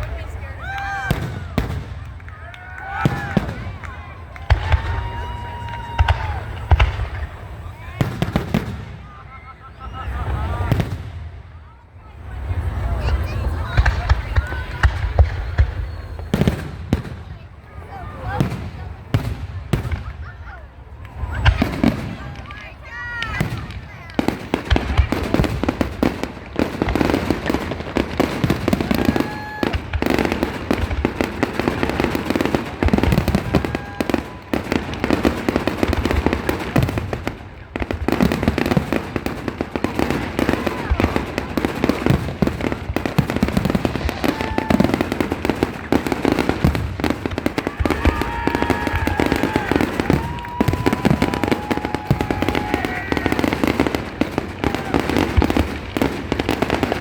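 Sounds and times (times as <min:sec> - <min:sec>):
fireworks bursting with booms and crackle: 0:00.0 - 0:57.0.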